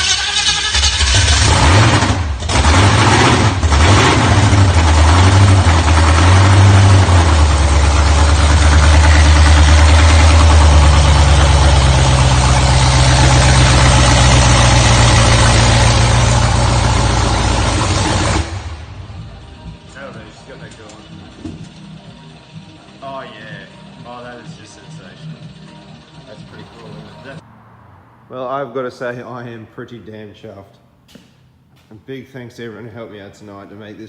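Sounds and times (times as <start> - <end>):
engine surging and idling: 0.0 - 28.3.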